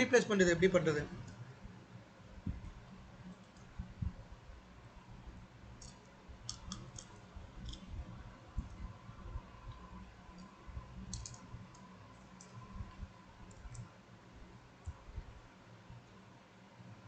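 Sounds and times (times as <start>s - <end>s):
low rumbling room noise: 0.0s - 17.0s.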